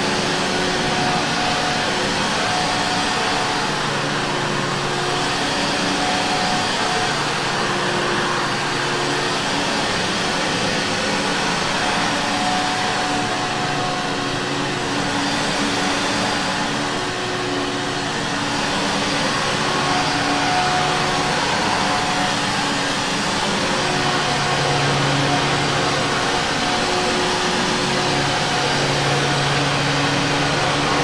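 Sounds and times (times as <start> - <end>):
vacuum cleaner running on carpet: 0.0 - 31.0.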